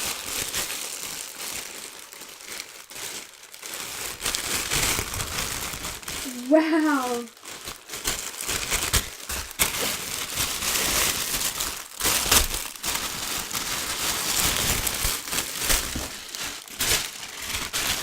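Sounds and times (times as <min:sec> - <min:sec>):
plastic packets crinkling: 0:00.0 - 0:18.0.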